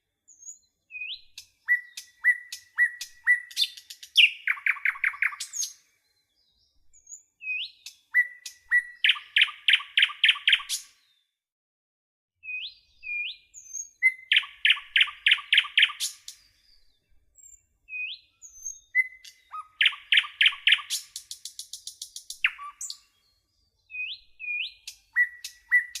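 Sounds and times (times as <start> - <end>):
songbird singing: 0.0 - 11.3, 12.4 - 26.0.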